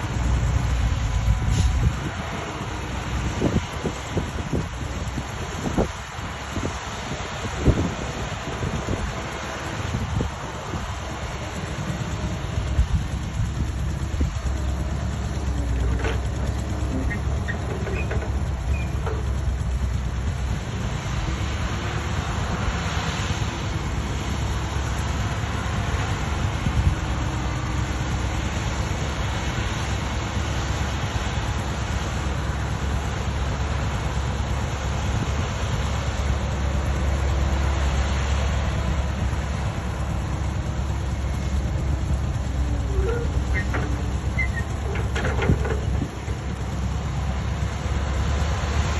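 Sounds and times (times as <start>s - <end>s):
heavy vehicle rumbling: 0.0s - 48.9s.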